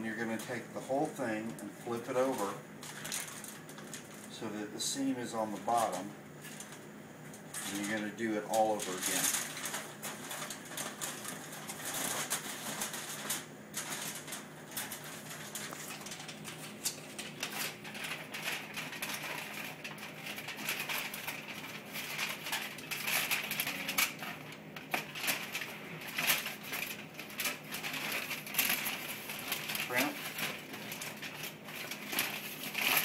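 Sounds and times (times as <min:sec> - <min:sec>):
aluminium foil crinkling: 0:00.0 - 0:33.0.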